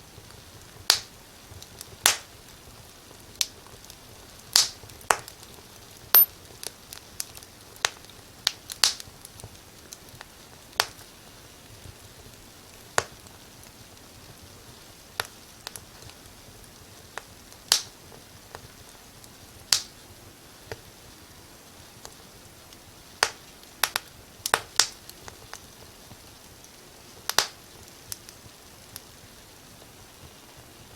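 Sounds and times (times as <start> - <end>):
fireplace fire crackling: 0.0 - 30.9.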